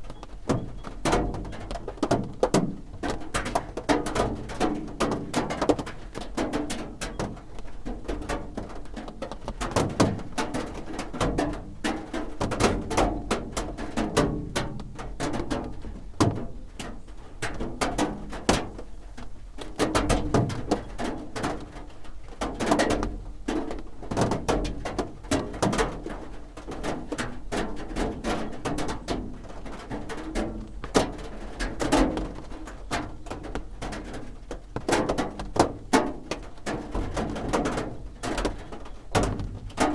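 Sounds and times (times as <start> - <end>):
rain drumming on a roof: 0.0 - 39.9.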